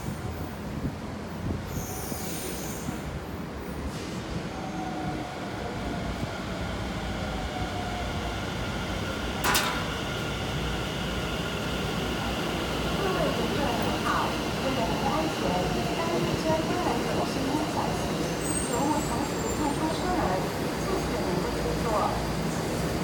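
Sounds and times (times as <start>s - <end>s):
train pulling into station: 0.0s - 23.0s.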